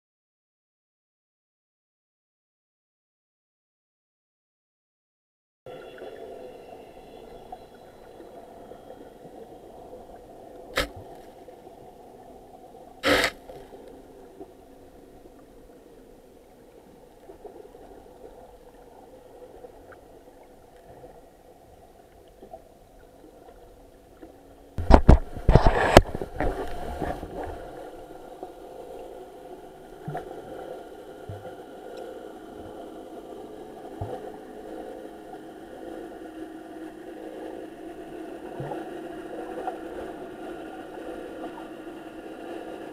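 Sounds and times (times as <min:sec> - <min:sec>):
muffled underwater hum: 0:05.7 - 0:42.9.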